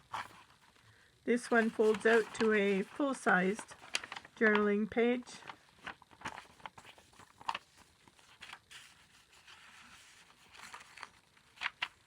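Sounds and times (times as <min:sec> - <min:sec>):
paper pages rustling: 0:00.0 - 0:00.8, 0:01.4 - 0:12.0.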